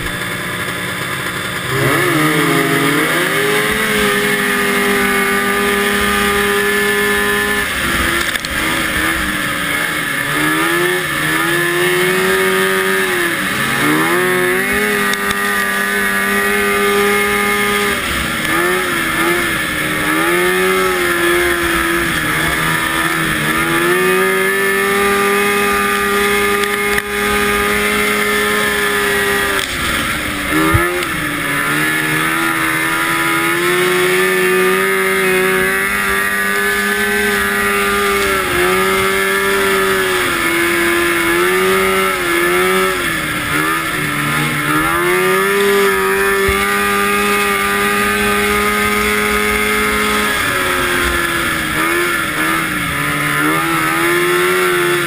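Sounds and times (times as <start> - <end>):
two-stroke snowmobile engine revving: 0.0 - 55.0.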